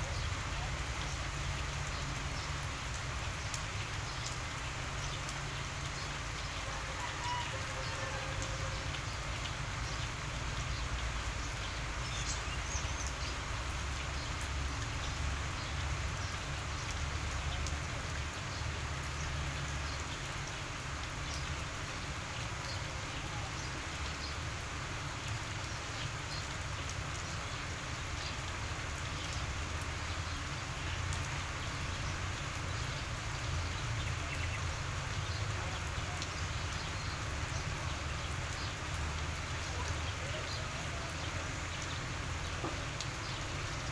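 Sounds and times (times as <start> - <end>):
constant even hiss: 0.0 - 43.9.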